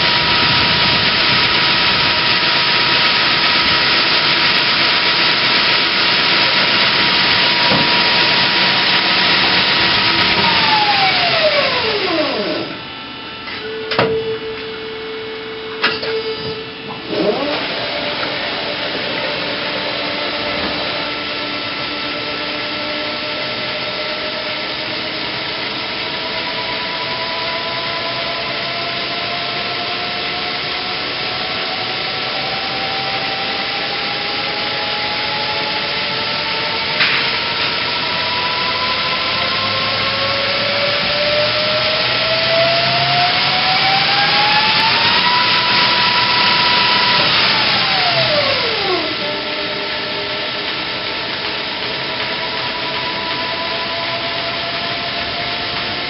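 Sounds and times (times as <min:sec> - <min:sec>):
lathe hissing and whining: 0:00.0 - 0:56.0.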